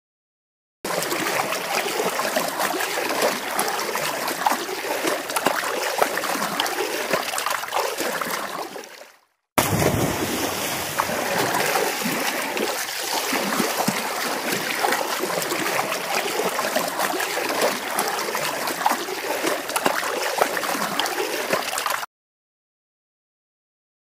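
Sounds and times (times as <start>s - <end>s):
splashing and rushing water: 0.9s - 22.1s.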